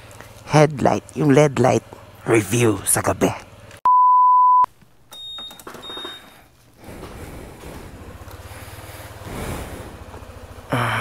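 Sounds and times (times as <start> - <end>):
scooter engine idling: 0.0 - 3.8, 5.3 - 11.0.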